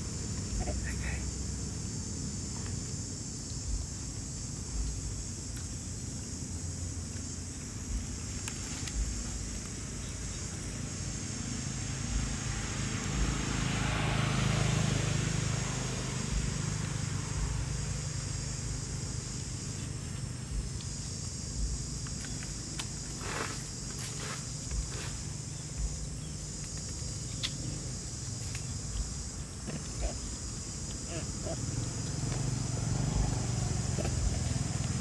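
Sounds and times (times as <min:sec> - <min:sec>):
distant vehicle engine rumble: 0:00.0 - 0:35.0
high insect drone: 0:00.0 - 0:35.0.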